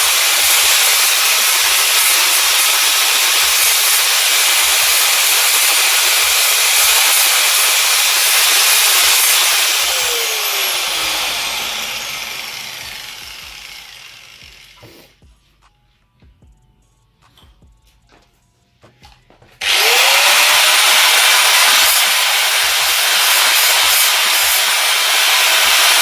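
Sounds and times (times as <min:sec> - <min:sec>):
power grinder spinning down: 0:00.0 - 0:15.0, 0:19.6 - 0:26.0.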